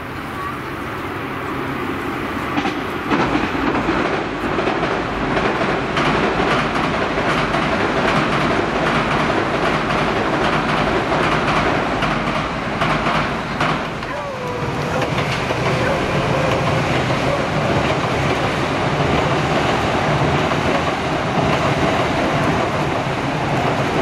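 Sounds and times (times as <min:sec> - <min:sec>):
train rumbling over steel bridge: 0:00.0 - 0:24.0
wheels clattering over rail joints: 0:00.0 - 0:24.0.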